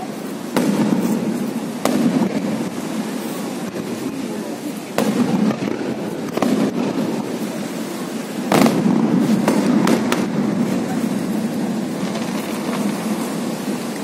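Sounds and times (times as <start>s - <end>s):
crowd murmuring: 0.0s - 14.0s
firework shells bursting: 0.1s - 14.0s.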